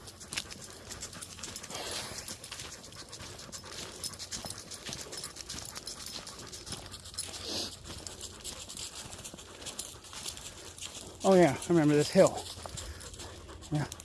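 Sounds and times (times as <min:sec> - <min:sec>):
dog panting: 0:00.0 - 0:14.0
footsteps crunching on trail: 0:00.0 - 0:14.0.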